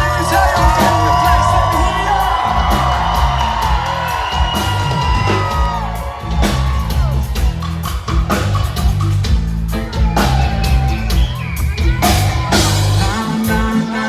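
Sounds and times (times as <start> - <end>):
drum hits: 0.0 - 13.3
heavy bass line: 0.0 - 14.0
live reggae band playing: 0.0 - 14.0.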